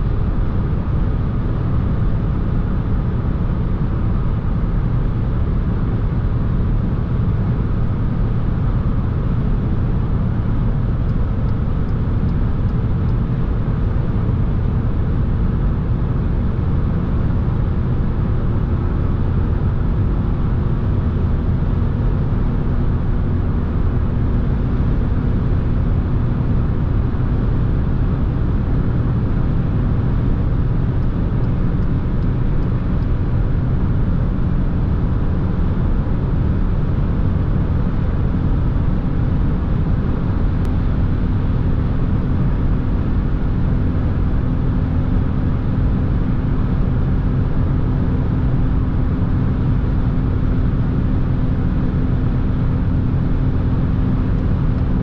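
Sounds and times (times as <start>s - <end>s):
car engine drone: 0.0s - 55.0s
road and wind noise: 0.0s - 55.0s.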